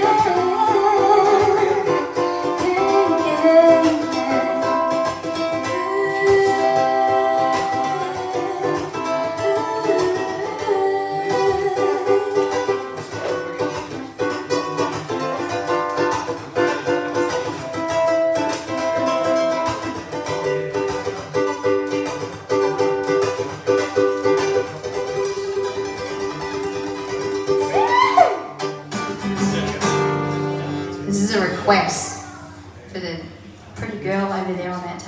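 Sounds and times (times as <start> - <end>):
plucked string instrument: 0.0 - 34.8.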